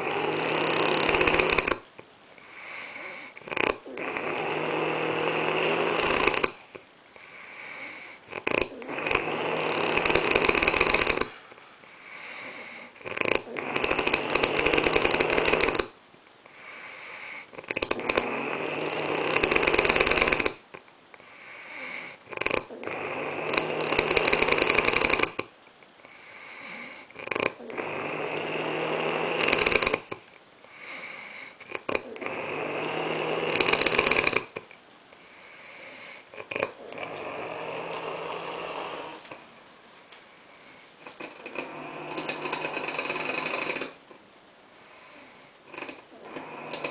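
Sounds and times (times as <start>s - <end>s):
person snoring: 0.0s - 1.8s, 2.4s - 20.6s, 21.2s - 25.5s, 26.1s - 34.6s, 35.2s - 39.5s, 40.5s - 44.0s, 44.8s - 46.9s
quiet breaths: 0.0s - 46.9s.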